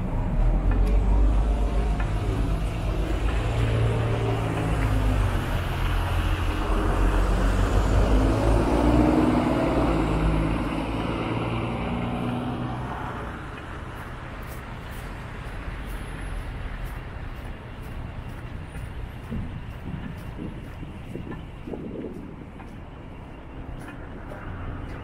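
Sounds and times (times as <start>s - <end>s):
heavy vehicle engines droning: 0.0s - 25.0s
road traffic: 0.0s - 25.0s.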